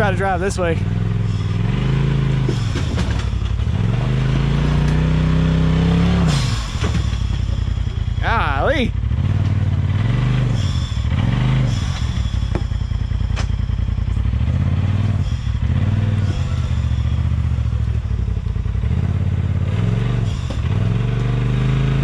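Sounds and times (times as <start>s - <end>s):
utv engine revving: 0.0s - 22.0s.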